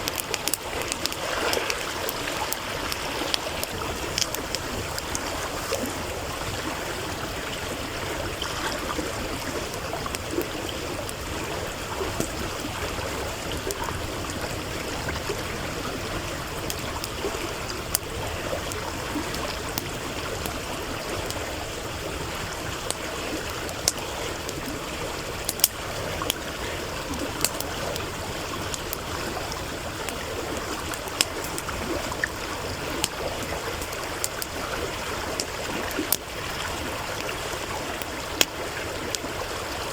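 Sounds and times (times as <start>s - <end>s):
campfire crackling and popping: 0.0s - 39.9s
stream running: 0.0s - 39.9s.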